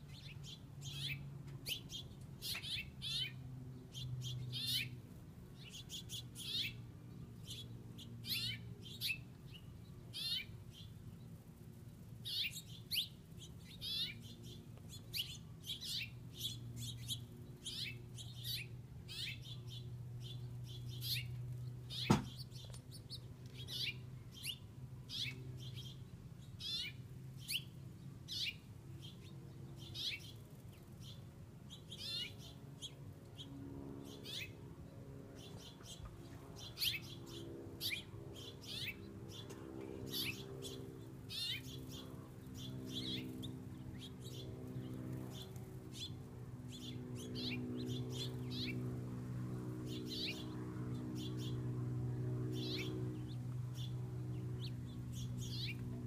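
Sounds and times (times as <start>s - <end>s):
steady low hum: 0.0s - 56.0s
finches chirping: 0.1s - 4.9s, 7.4s - 10.9s, 12.2s - 27.7s, 28.3s - 34.6s, 35.4s - 48.8s, 49.9s - 50.5s, 52.5s - 54.0s, 54.6s - 55.9s.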